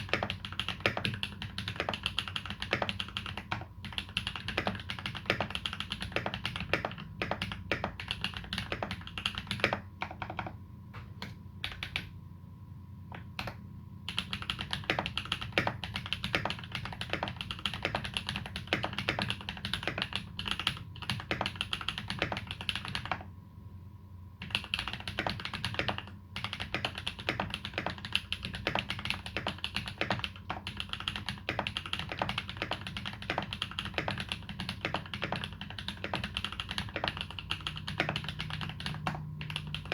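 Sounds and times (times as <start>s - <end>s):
mechanical keyboard typing: 0.0s - 10.6s, 11.2s - 12.1s, 13.1s - 23.3s, 24.4s - 39.9s.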